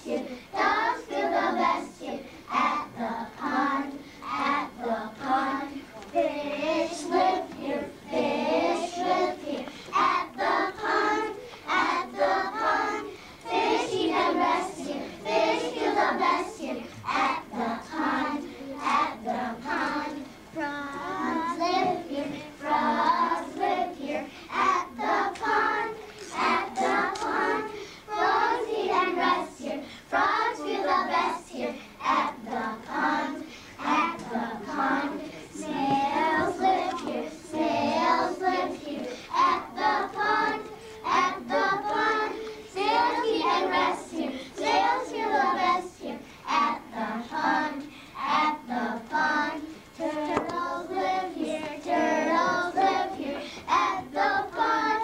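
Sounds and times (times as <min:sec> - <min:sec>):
children singing in unison: 0:00.0 - 0:55.0.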